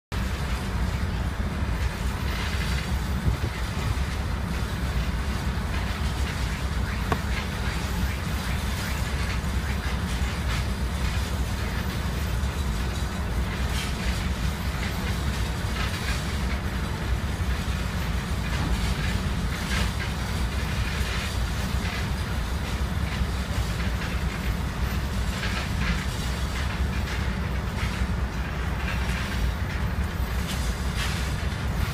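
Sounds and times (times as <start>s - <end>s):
ferry engines rumbling: 0.1s - 31.9s.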